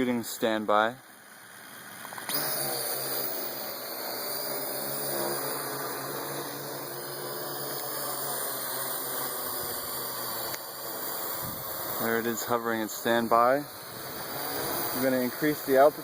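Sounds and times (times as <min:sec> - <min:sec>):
drone rotors whirring: 0:01.2 - 0:16.0.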